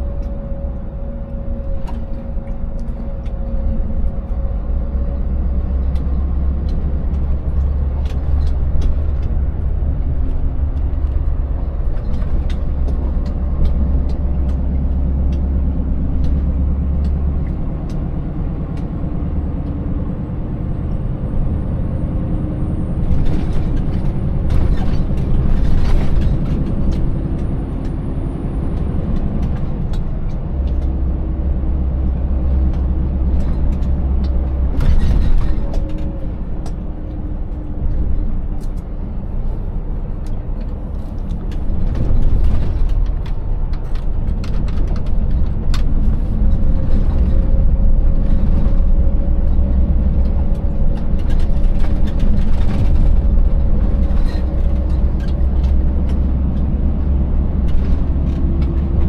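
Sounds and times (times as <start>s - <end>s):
truck engine droning: 0.0s - 59.0s
truck knocks and rattles: 0.0s - 59.0s.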